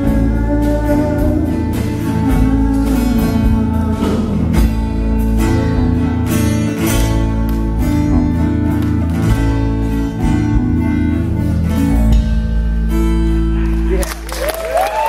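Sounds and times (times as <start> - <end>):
strummed acoustic guitar: 0.0 - 13.9
electric bass: 0.0 - 15.0.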